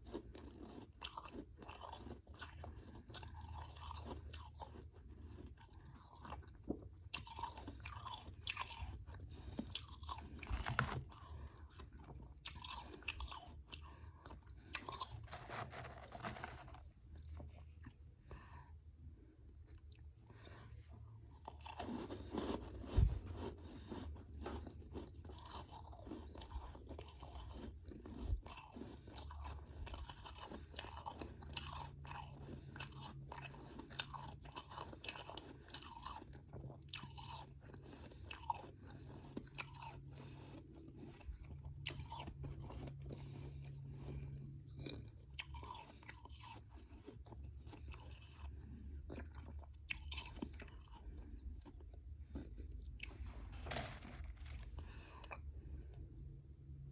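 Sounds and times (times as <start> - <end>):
chewing ice crunches: 0.0 - 16.7, 21.3 - 55.9.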